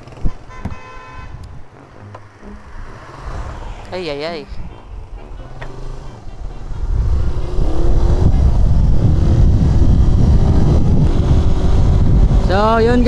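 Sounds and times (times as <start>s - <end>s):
wind rush on microphone: 0.0s - 1.7s, 2.8s - 13.0s
motorcycle engine: 0.0s - 13.0s.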